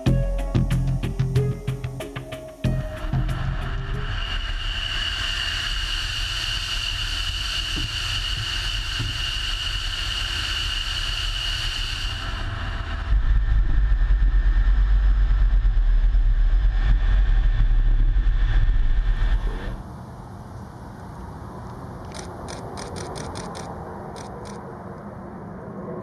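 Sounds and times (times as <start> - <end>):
jet engine low rumble: 0.0 - 26.0
jet engine turbine whine: 0.7 - 26.0.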